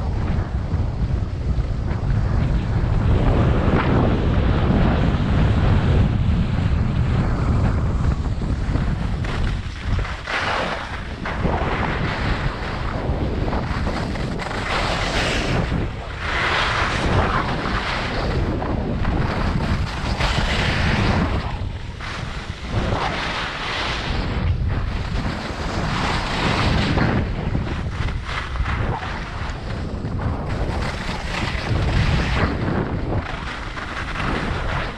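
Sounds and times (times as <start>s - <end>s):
skis carving on snow: 0.0s - 34.9s
wind buffeting microphone: 0.0s - 34.9s.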